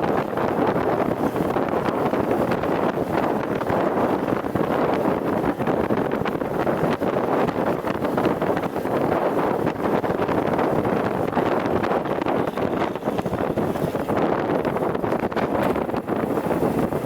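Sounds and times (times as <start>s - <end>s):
wind buffeting microphone: 0.0s - 17.0s
truck engine drone with rattles: 0.1s - 17.0s.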